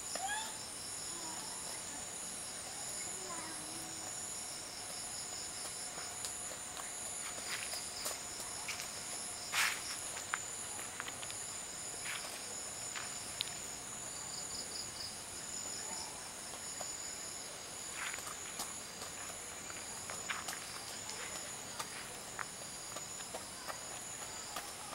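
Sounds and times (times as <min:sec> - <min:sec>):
insects buzzing and trilling: 0:00.0 - 0:24.9.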